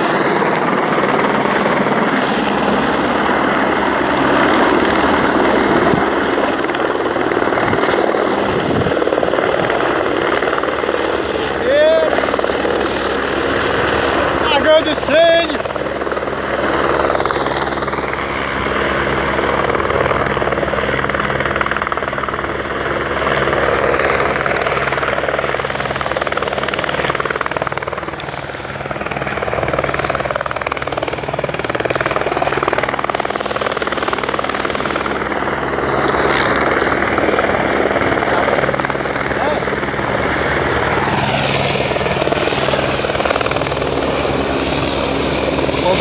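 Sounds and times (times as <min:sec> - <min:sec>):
helicopter rotor and engine noise: 0:00.0 - 0:46.0.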